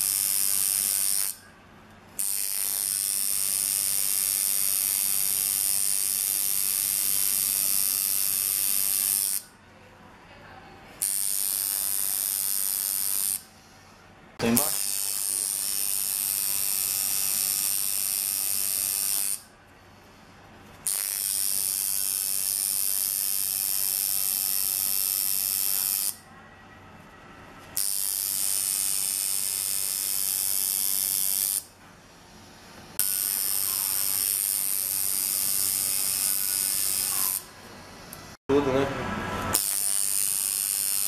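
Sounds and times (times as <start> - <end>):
tattoo machine buzzing: 0.0 - 1.4, 2.2 - 9.5, 11.0 - 13.5, 14.4 - 19.5, 20.7 - 26.2, 27.7 - 38.3, 39.5 - 41.0.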